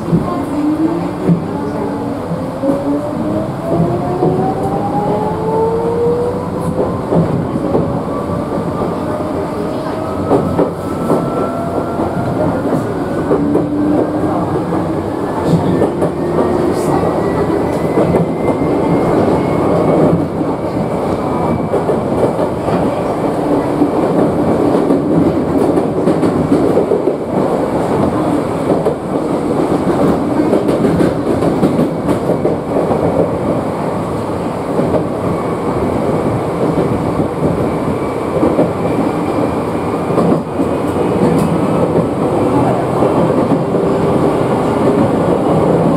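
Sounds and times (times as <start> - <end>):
electric train rumble: 0.0 - 45.9.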